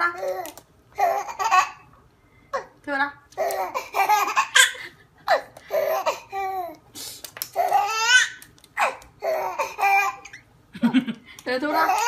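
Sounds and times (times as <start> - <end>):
baby laughing: 0.1 - 1.9, 3.4 - 6.8, 7.5 - 12.0.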